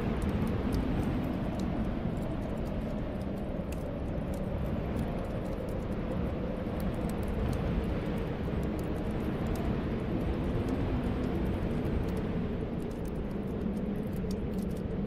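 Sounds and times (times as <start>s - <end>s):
storm wind blowing: 0.0s - 15.0s.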